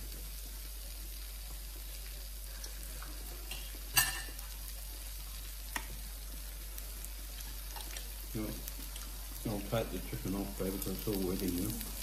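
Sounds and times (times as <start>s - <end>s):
chicken sizzling on grill plate: 0.0s - 12.0s.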